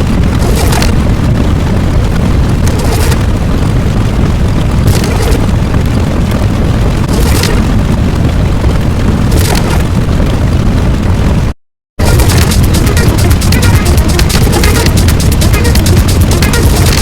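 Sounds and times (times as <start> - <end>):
deep explosion-like rumbling: 0.0 - 17.0.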